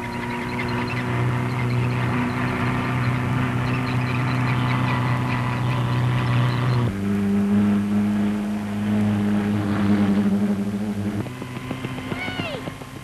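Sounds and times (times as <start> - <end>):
racing car engine droning: 0.0 - 13.0.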